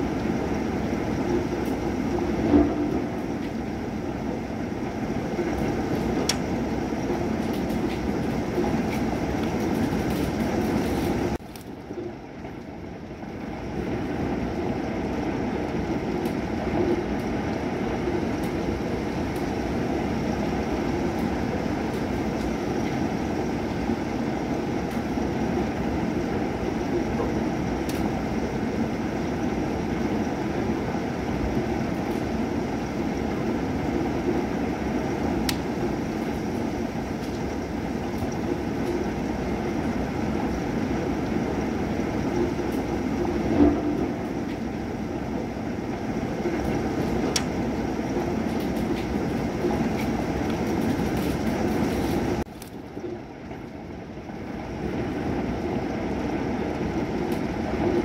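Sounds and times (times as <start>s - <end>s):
heavy rain rumble: 0.0s - 58.0s.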